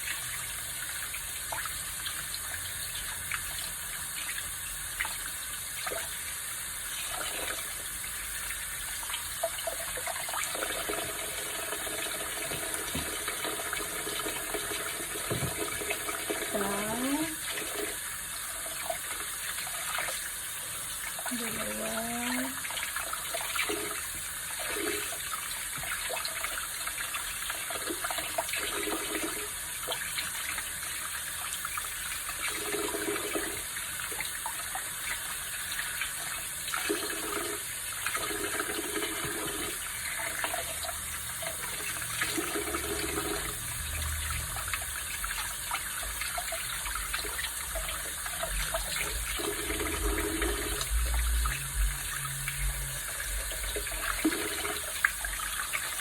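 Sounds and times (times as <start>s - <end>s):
tap water running into sink: 0.0s - 56.0s.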